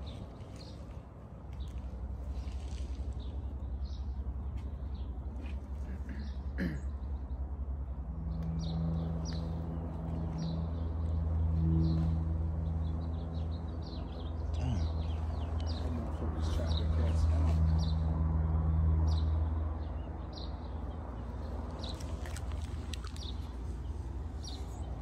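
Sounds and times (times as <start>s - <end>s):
small birds chirping: 0.0s - 18.2s, 19.1s - 25.0s.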